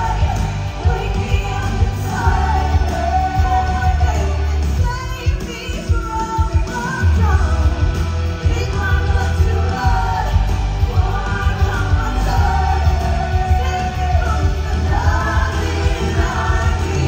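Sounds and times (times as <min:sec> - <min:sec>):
backing track with heavy bass: 0:00.0 - 0:17.0.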